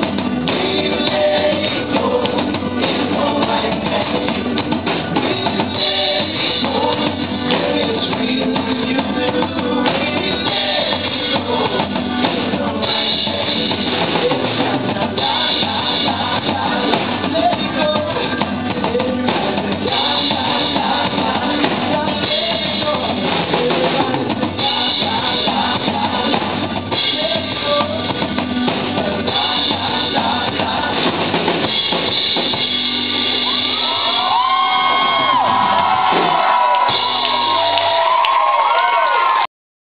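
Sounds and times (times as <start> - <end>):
bass drum beat: 0.0 - 38.5
live band playing pop-rock: 0.0 - 39.4.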